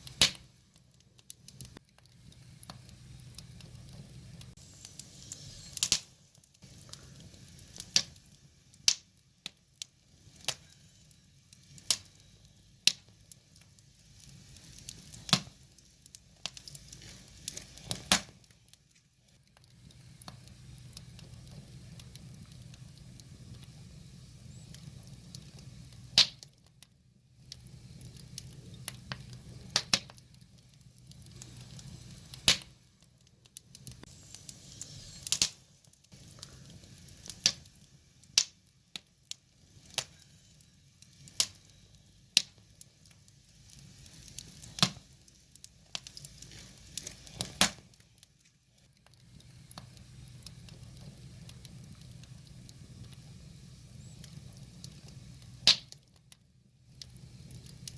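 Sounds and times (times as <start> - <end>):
fire crackling and popping: 0.0 - 57.9
low rumble of flames: 0.0 - 57.9.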